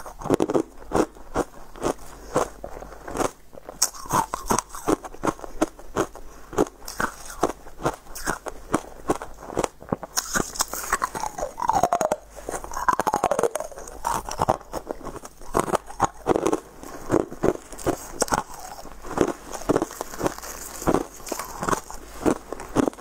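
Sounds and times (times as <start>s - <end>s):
crunching ice cubes: 0.0s - 23.0s.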